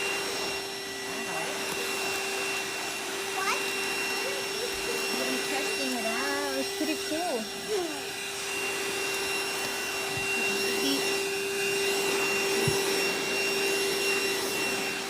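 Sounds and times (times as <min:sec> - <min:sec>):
handheld vacuum cleaner running: 0:00.0 - 0:15.0.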